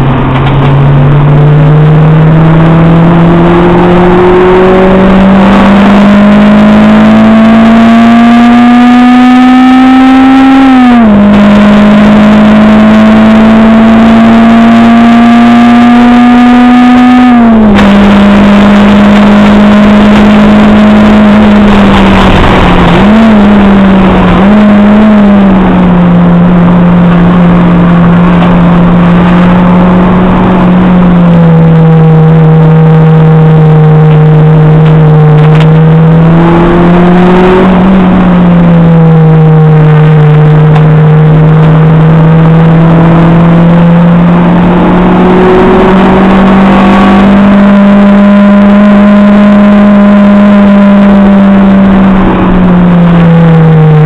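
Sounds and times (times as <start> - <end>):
car engine at high revs: 0.0 - 54.0
road and wind noise: 0.0 - 54.0.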